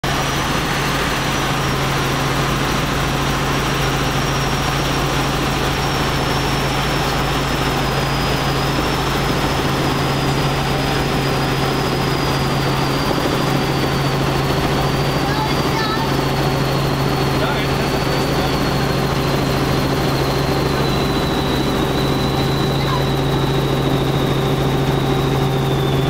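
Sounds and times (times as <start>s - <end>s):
helicopter engine and rotors droning: 0.0s - 26.0s
thin high whine: 4.0s - 26.0s.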